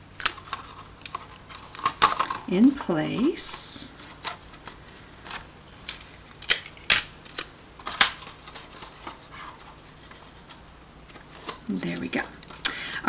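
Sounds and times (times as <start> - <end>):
plastic sheet clicks and crackles: 0.2 - 2.5, 4.0 - 12.6.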